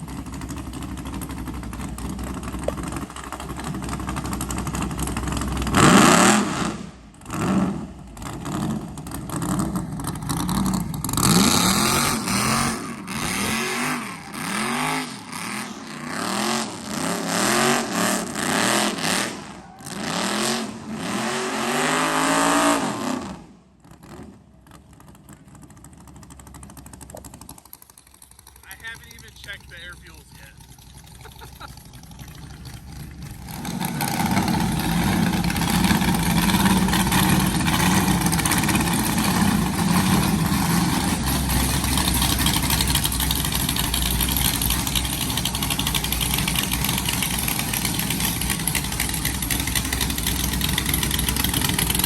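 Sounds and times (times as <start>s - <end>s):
car engine revving: 0.0s - 27.6s, 28.2s - 52.0s.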